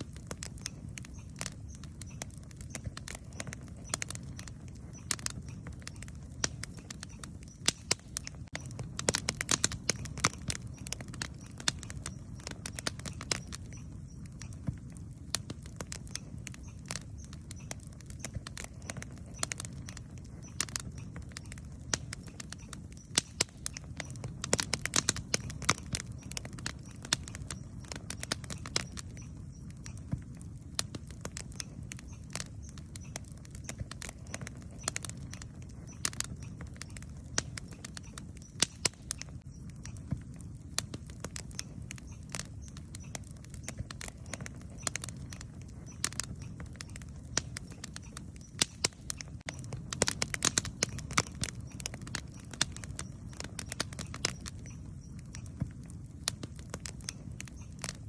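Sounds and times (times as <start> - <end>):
wood campfire crackling: 0.0 - 58.0.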